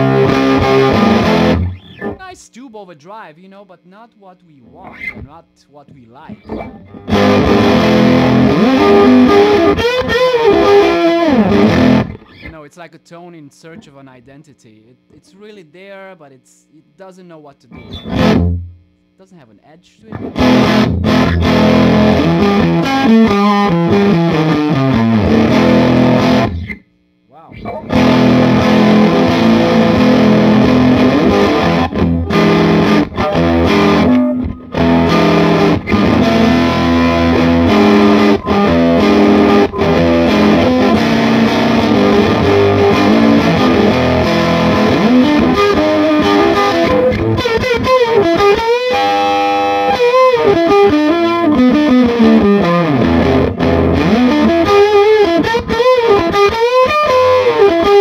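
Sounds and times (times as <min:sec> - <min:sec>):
distorted electric guitar: 0:00.0 - 0:02.6, 0:04.6 - 0:12.8, 0:16.2 - 0:58.0.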